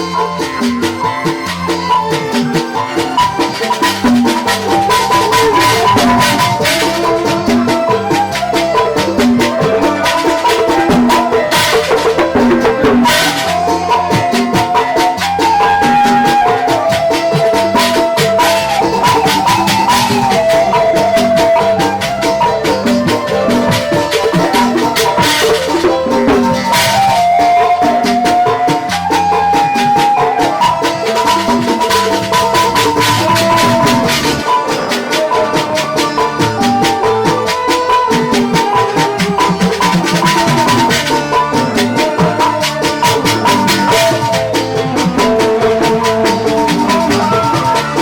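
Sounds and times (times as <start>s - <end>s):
band music over sound system: 0.0s - 48.0s.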